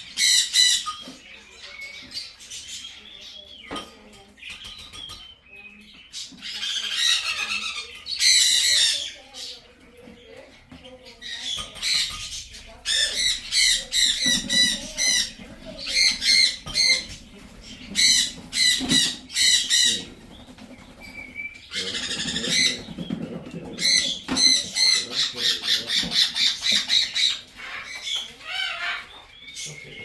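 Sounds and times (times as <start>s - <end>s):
macaws calling harshly: 4.4s - 9.7s, 11.1s - 30.0s.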